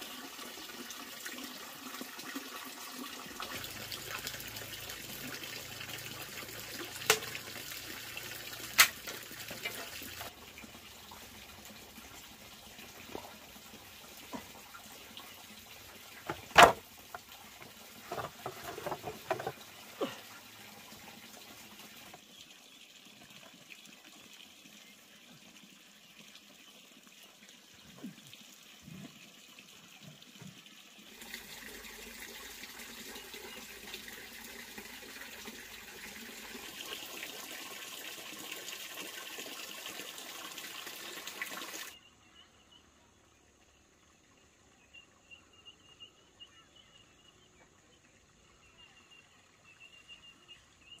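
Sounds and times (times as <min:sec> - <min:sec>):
running splashing water: 0:00.0 - 0:42.0.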